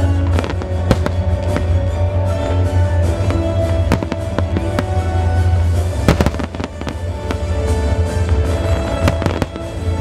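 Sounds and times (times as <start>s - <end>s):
firework bangs: 0.0s - 2.6s, 3.2s - 10.0s
music with heavy bass: 0.0s - 10.0s.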